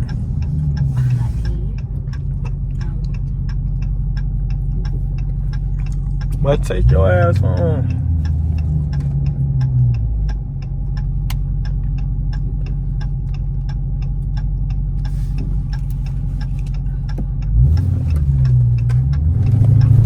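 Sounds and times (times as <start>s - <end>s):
light regular ticks: 0.0s - 6.8s, 7.5s - 20.0s
car engine droning at low revs: 0.0s - 20.0s.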